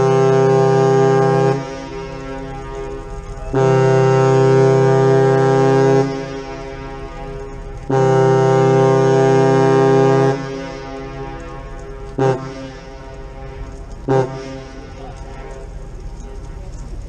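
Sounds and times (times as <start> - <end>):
ship's horn blasts: 0.0 - 15.7.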